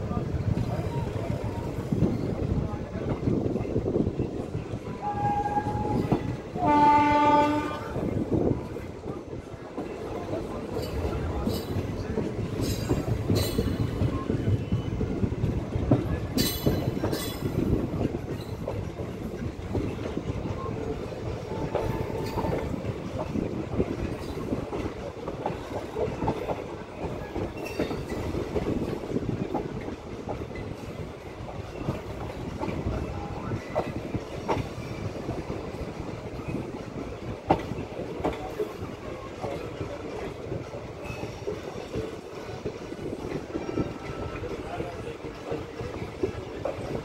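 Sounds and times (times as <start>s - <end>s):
wheels rumbling on rail: 0.0s - 47.0s
wheels clacking over rail joints: 8.6s - 47.0s.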